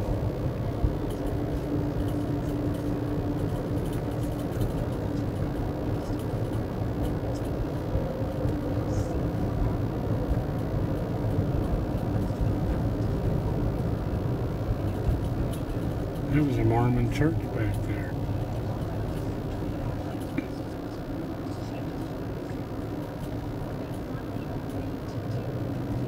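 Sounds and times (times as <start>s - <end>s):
faint steady hum: 0.0s - 26.0s
road and engine noise in car: 0.0s - 26.0s.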